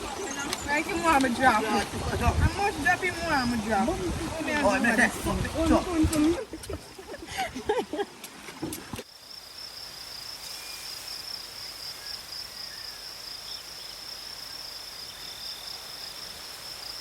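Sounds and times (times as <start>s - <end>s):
insects chirring: 0.0s - 8.0s, 9.0s - 17.0s
faint outdoor noise: 0.0s - 17.0s.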